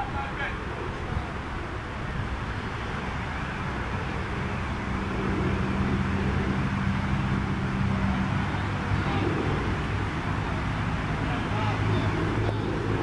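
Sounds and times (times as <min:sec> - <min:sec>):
outdoor rumble: 0:00.0 - 0:13.0
vehicle engine running: 0:00.0 - 0:13.0.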